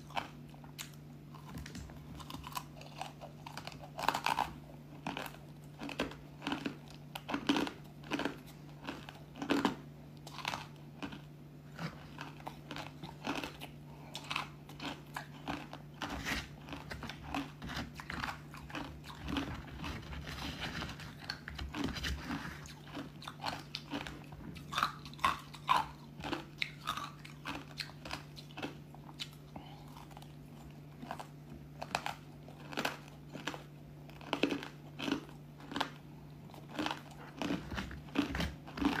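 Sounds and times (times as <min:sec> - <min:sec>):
crunching and chewing ice: 0:00.0 - 0:39.0.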